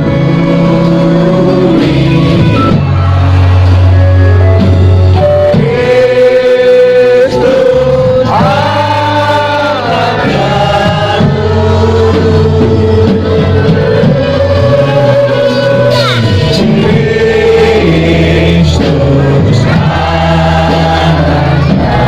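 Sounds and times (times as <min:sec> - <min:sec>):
song with singing voice: 0:00.0 - 0:22.0
steady bass line: 0:00.0 - 0:22.0.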